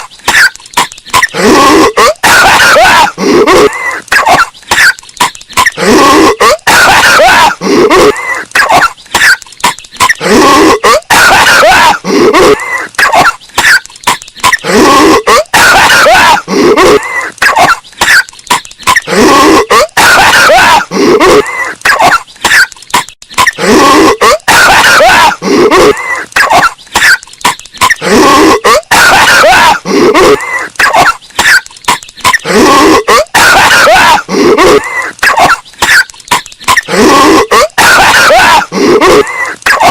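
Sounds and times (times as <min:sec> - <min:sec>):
distorted cartoon coughing: 0:00.0 - 0:39.9.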